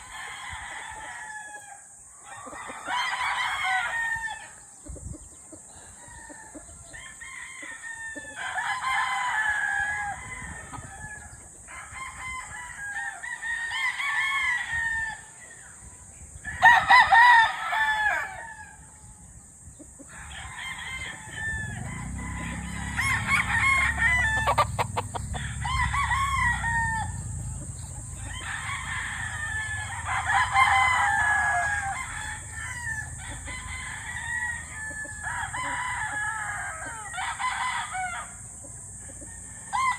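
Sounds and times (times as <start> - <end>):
young rooster crowing: 0.0 - 4.6, 5.8 - 15.8, 16.4 - 19.3, 20.0 - 39.9.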